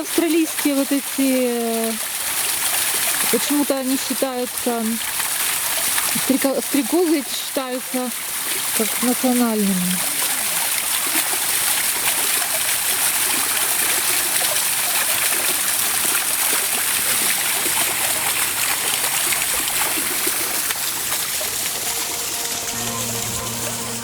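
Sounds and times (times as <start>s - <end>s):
running water rushing: 0.0s - 24.0s
water splashing and trickling: 0.0s - 24.0s.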